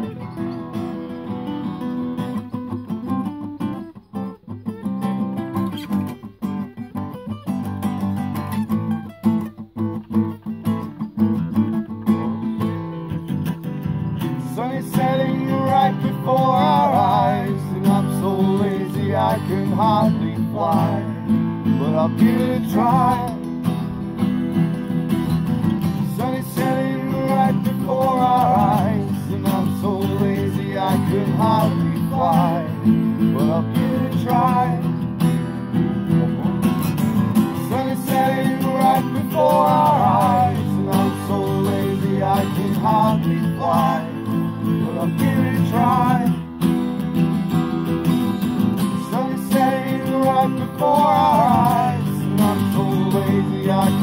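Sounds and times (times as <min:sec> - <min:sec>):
acoustic guitars strumming: 0:00.0 - 0:54.0.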